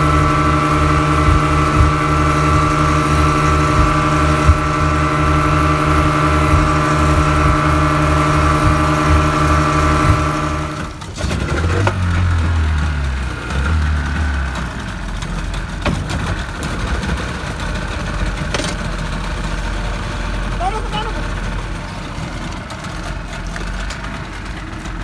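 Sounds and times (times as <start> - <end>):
outboard motors running: 0.0 - 25.0
outboards idling: 0.0 - 25.0.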